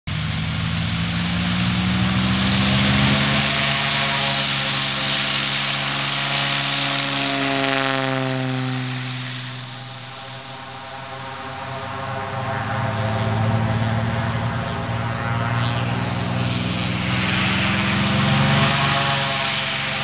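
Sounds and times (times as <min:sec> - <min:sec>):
propeller plane engine: 0:00.0 - 0:20.0.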